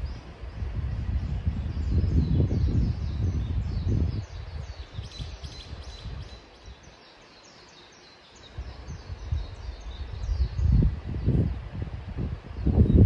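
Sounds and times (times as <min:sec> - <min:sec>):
wind buffeting microphone: 0:00.0 - 0:07.0, 0:08.4 - 0:13.0
small birds chirping: 0:00.0 - 0:11.8.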